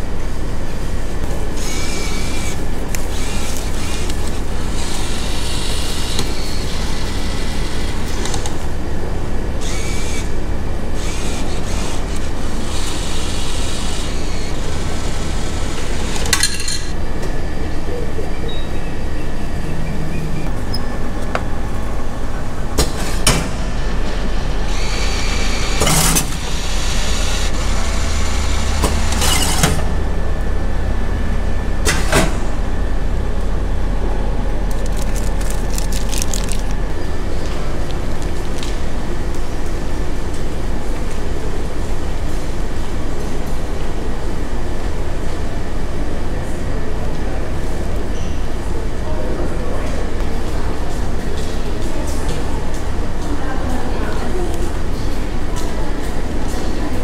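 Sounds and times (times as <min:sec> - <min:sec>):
vending machine humming: 0:00.0 - 0:57.0.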